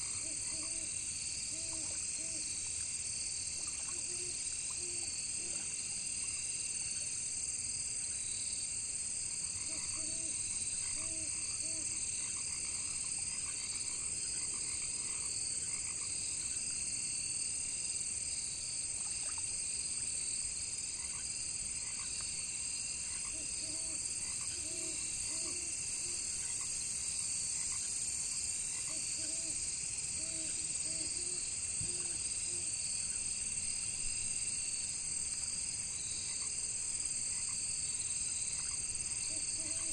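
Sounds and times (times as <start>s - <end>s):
frogs croaking: 0.0s - 7.1s, 9.3s - 16.7s, 20.8s - 39.9s
crickets chirping: 0.0s - 39.9s.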